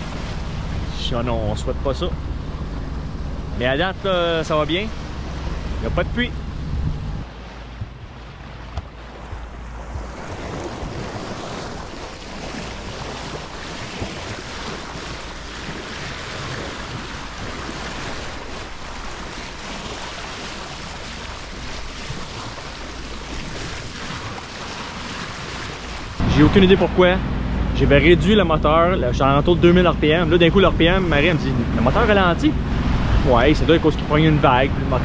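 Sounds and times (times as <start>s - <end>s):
water rushing along boat hull: 0.0s - 35.0s
wind buffeting microphone: 0.0s - 35.0s.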